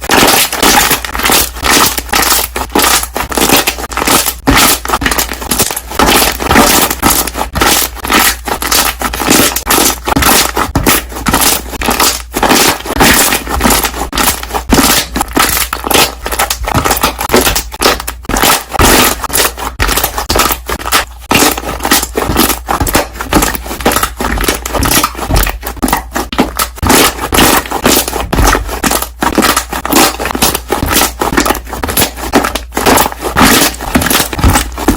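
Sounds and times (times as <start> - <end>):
slime being squished by hand: 0.0 - 34.9.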